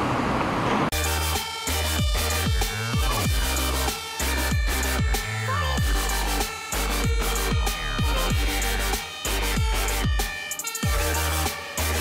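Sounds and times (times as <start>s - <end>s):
electronic dance music: 0.9s - 12.0s.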